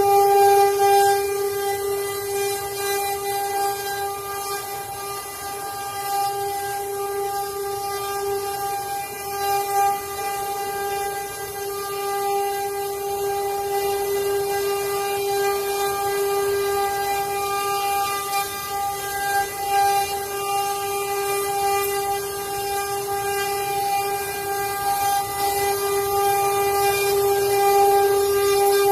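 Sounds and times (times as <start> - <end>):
wood-carving router whining: 0.0 - 28.9.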